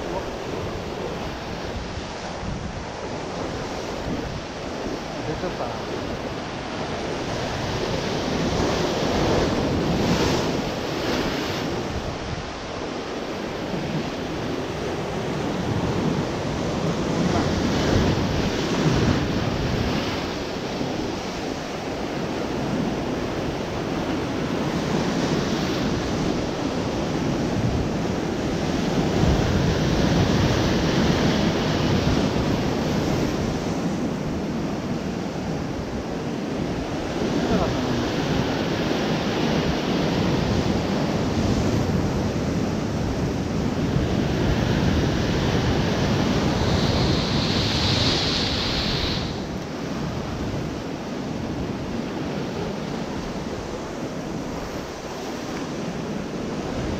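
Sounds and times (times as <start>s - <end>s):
sea waves breaking on rocks: 0.0s - 56.9s
wind buffeting microphone: 0.0s - 56.9s.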